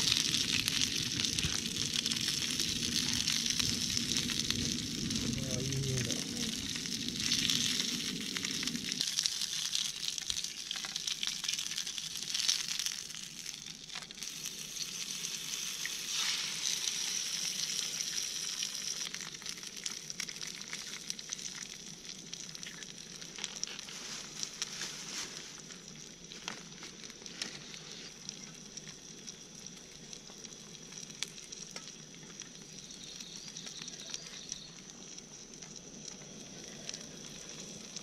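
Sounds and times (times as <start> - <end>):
sausages sizzling in oil: 0.0 - 38.0.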